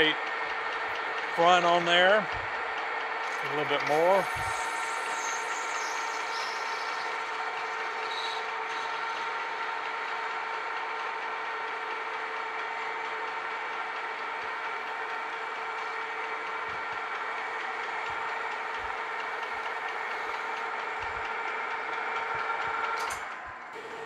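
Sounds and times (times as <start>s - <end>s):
lathe gearing whine: 0.0s - 24.0s.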